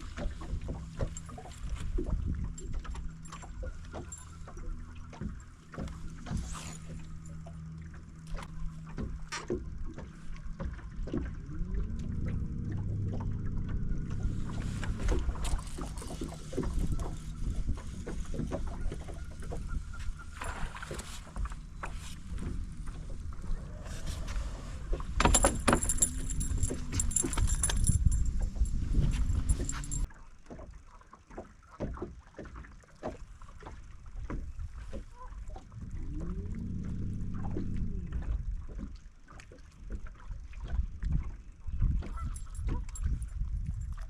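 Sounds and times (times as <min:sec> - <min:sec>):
boat motor humming: 0:00.0 - 0:30.1, 0:31.4 - 0:43.2.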